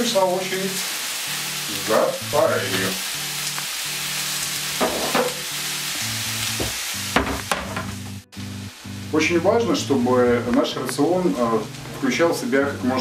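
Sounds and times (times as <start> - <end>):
background music: 0.0 - 13.0
food sizzling in a frying pan: 0.0 - 13.0.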